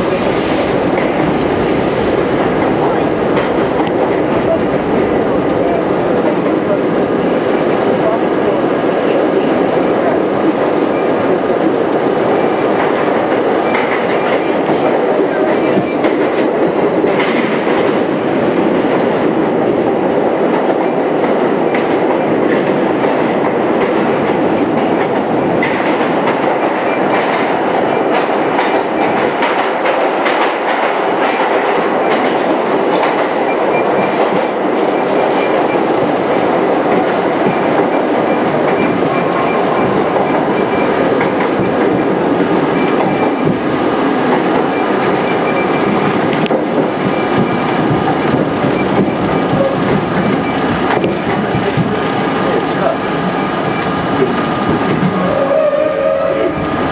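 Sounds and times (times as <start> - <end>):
subway train wheels rumbling: 0.0 - 56.9.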